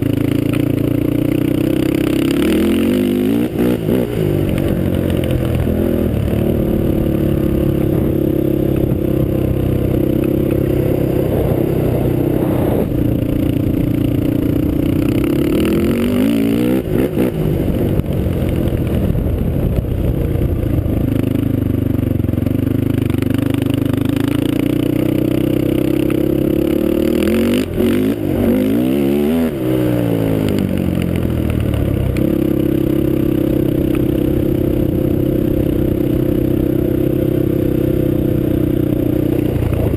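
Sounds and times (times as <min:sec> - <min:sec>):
quad engine running loud: 0:00.0 - 0:39.9.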